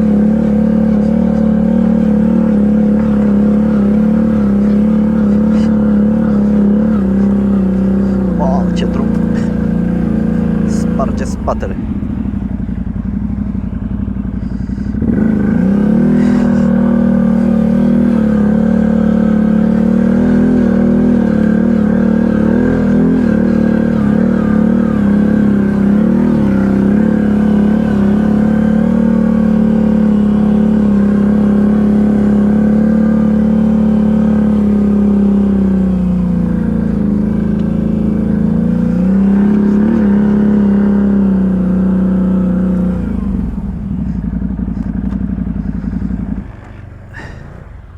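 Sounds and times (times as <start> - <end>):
atv engine revving high: 0.0 - 47.9.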